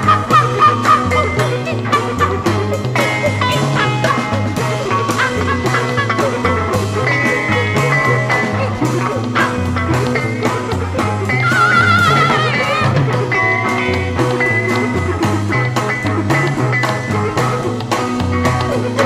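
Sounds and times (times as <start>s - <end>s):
bass line: 0.0s - 19.0s
electric guitar: 0.0s - 19.0s
steady drum beat: 0.0s - 19.0s.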